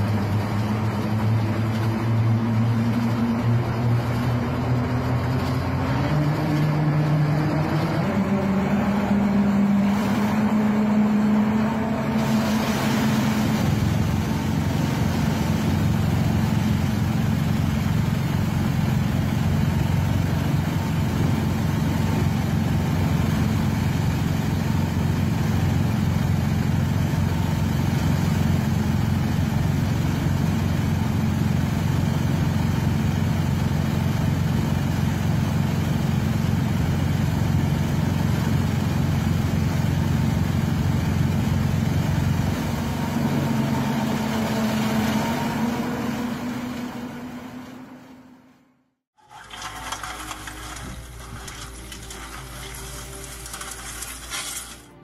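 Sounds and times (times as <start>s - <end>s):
snowblower rotor churning slush: 0.0s - 48.6s, 49.2s - 55.0s
loader engine drone: 0.0s - 55.0s.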